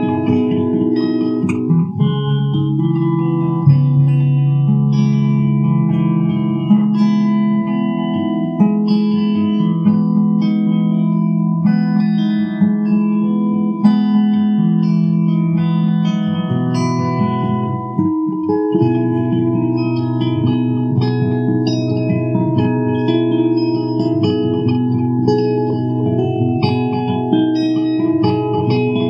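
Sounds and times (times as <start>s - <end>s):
electric guitar chords strummed: 0.0s - 29.0s.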